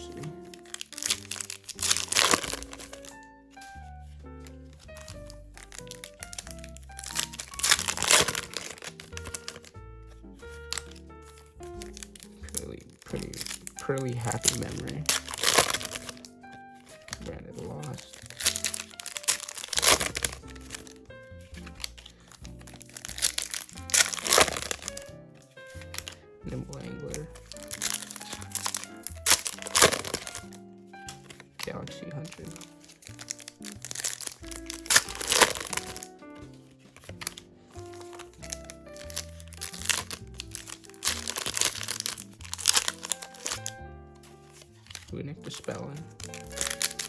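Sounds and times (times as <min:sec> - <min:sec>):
background music: 0:00.0 - 0:47.0
foil wrappers tearing and crinkling: 0:00.0 - 0:47.0.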